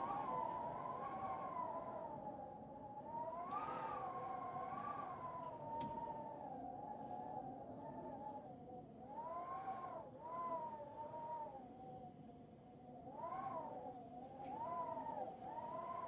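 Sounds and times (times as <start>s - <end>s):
wavering howling tone: 0.0s - 12.0s, 13.0s - 16.0s.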